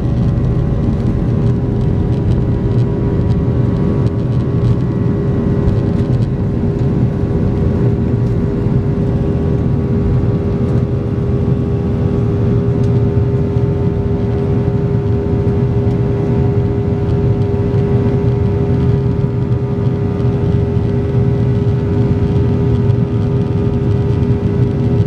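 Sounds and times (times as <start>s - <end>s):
constant engine whine: 0.0s - 25.0s
jet engine cabin rumble: 0.0s - 25.0s.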